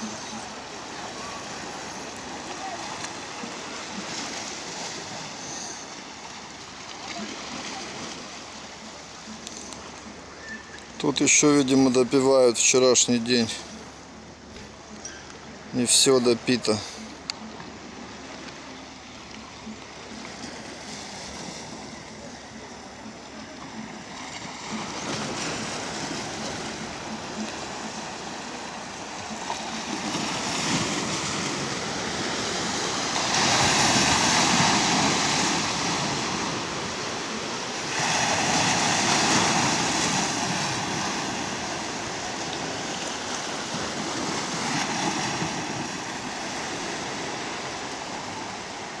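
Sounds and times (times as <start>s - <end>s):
waves breaking over rocks: 0.0s - 13.6s, 19.2s - 49.0s.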